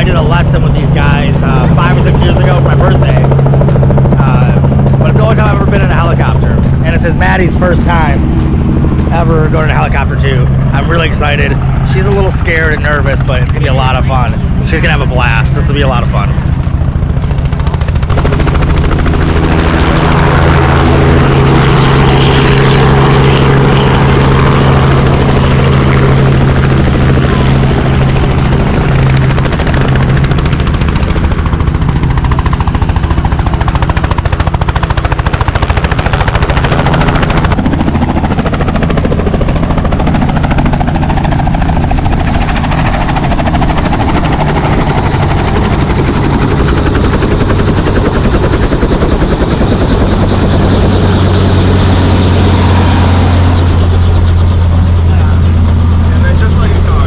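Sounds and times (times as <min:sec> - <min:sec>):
helicopter engine drone: 0:00.0 - 0:57.0
rotor blades chopping: 0:00.0 - 0:57.0.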